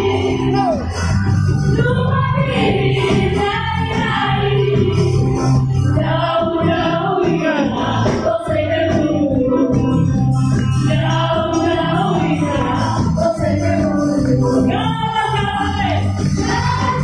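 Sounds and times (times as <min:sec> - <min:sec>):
steady bass line: 0:00.0 - 0:17.0
children's choir singing: 0:01.8 - 0:05.4, 0:06.0 - 0:09.9, 0:10.8 - 0:17.0.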